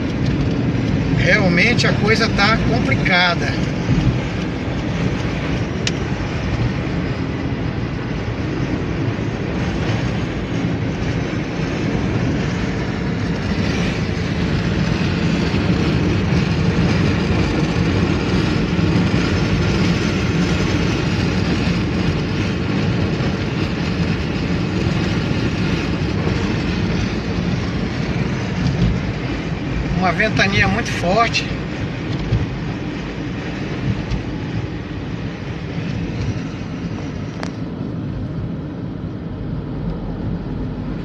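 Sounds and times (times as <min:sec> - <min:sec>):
car driving on highway: 0:00.0 - 0:41.0
strong wind: 0:00.0 - 0:41.0.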